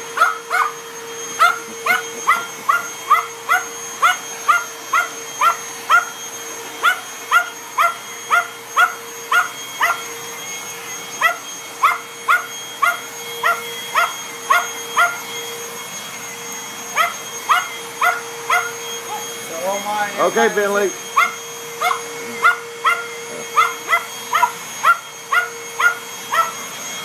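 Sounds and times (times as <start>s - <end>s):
vacuum cleaner motor humming: 0.0s - 27.0s
small dog yipping: 0.2s - 6.2s, 6.8s - 10.1s, 11.2s - 15.4s, 16.9s - 19.8s, 21.1s - 26.8s.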